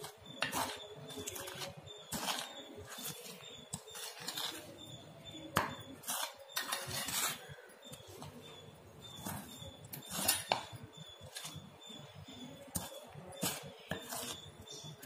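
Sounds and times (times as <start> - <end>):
spoon clinking: 0.0 - 15.0
spoon scraping and knocking bowl: 0.0 - 15.0.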